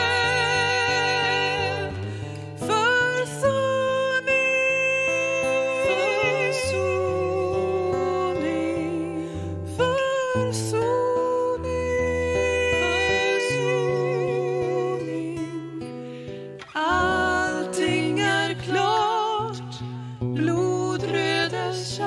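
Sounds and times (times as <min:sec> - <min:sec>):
women singing in harmony: 0:00.0 - 0:16.0, 0:16.6 - 0:22.0
acoustic guitar: 0:00.0 - 0:22.0.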